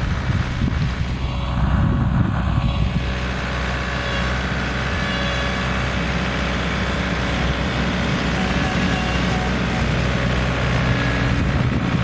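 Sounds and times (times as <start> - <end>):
snow groomer engine running: 0.0 - 12.0.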